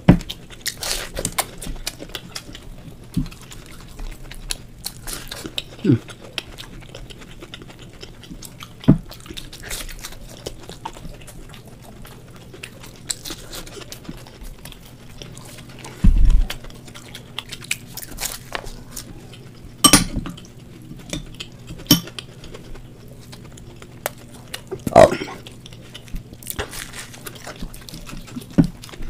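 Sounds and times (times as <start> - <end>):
crunchy chewing: 0.0 - 29.0.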